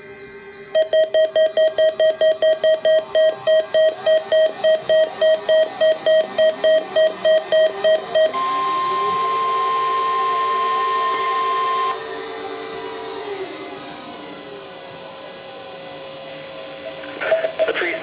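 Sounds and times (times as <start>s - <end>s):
steady warning alarm tone: 0.6s - 16.1s.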